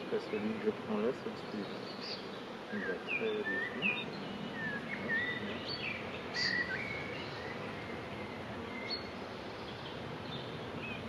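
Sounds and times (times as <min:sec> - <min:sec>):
songbirds chirping and whistling: 0:00.0 - 0:11.0.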